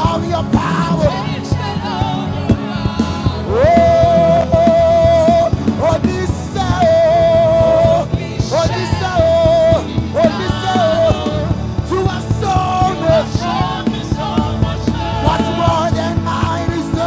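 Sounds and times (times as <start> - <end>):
band accompaniment: 0.0 - 17.0
person singing long notes: 0.0 - 17.0.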